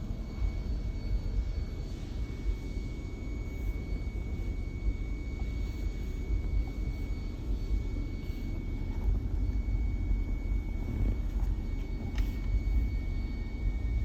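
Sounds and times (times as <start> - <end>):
engine low rumble: 0.0 - 14.0
thin high whine: 0.0 - 14.0.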